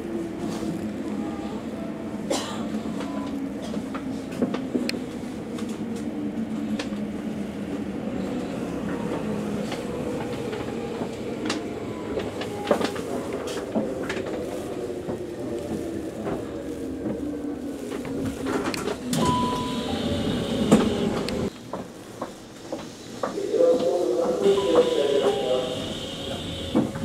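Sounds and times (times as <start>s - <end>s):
electric train running hum: 0.0s - 27.0s.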